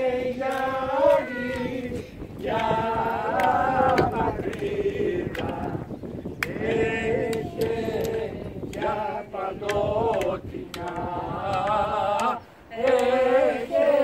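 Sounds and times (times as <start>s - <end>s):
men singing unaccompanied: 0.0s - 14.0s.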